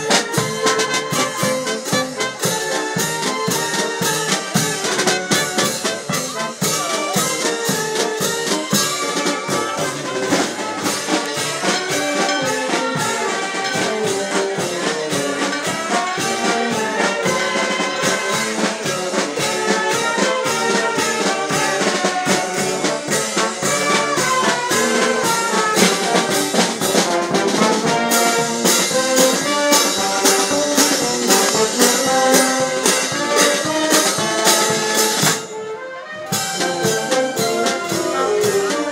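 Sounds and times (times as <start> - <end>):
steady drum beat: 0.0 - 35.6, 36.3 - 38.9
brass band playing: 0.0 - 38.9.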